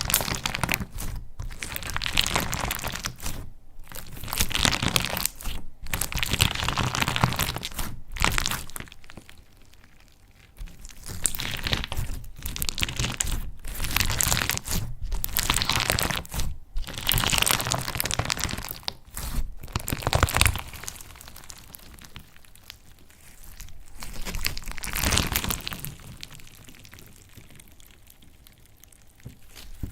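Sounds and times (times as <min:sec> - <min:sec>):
slime crackling and crunching: 0:00.0 - 0:29.9.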